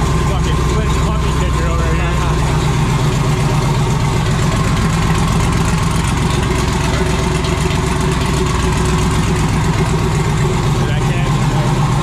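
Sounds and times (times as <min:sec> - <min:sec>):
loud race car engine idling: 0:00.0 - 0:12.0.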